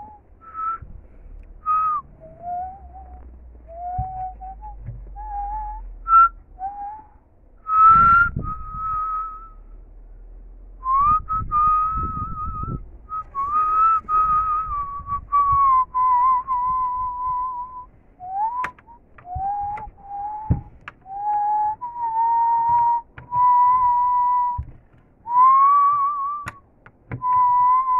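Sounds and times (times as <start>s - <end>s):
person whistling a tune: 0.0s - 0.9s, 1.5s - 9.7s, 10.8s - 27.9s.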